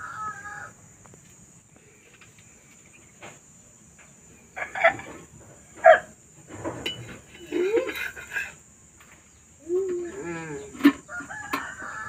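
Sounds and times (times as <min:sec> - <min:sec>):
high-pitched insect-like hiss: 0:00.0 - 0:12.0.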